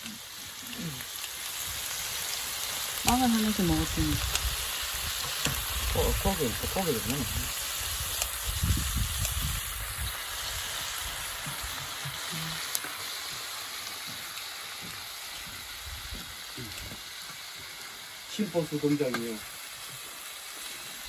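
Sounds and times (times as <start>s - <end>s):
pork sizzling on a griddle: 0.0s - 21.0s.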